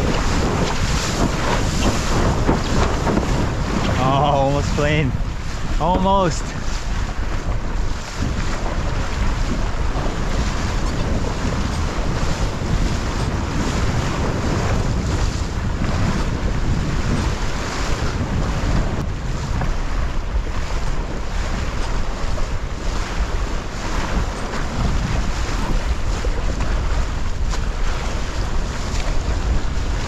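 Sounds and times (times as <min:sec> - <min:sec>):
rushing and splashing water: 0:00.0 - 0:30.0
wind buffeting microphone: 0:00.0 - 0:30.0.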